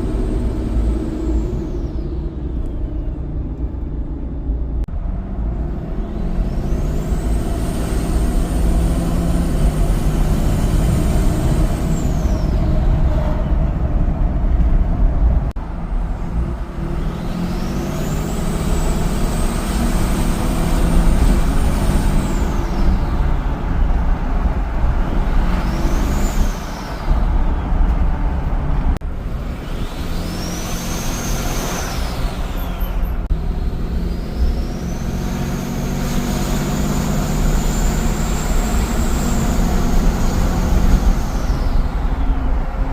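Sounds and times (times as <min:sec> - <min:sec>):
diesel engine low rumble: 0:00.0 - 0:42.9.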